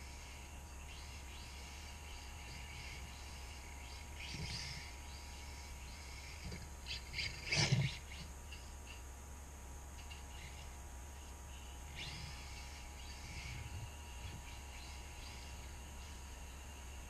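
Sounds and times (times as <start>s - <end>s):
rc car electric motor whining: 0.0s - 9.0s, 10.0s - 17.0s
low room hum: 0.0s - 17.0s.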